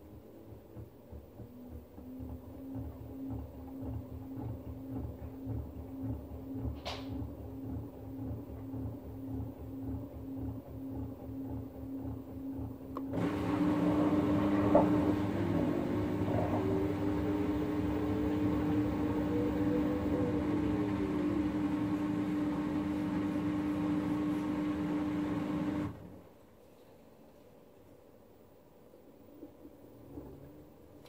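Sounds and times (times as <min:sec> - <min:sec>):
washing machine drum motor whine: 0:00.0 - 0:26.3
washing machine pump hum: 0:00.0 - 0:26.3.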